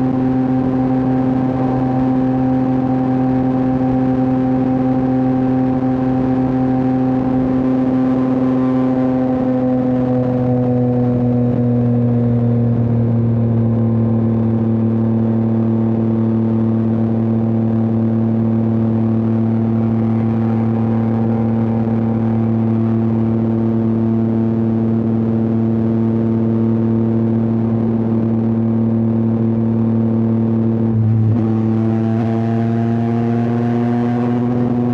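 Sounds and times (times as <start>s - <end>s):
motorcycle engine cruising: 0.0s - 34.9s.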